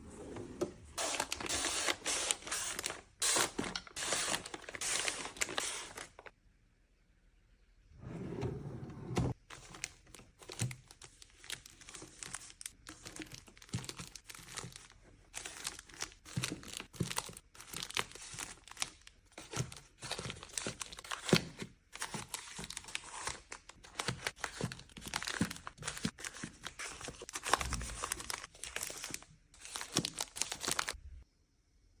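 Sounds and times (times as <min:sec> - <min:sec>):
packaging crinkling and tearing: 0:01.0 - 0:06.3, 0:09.5 - 0:31.0.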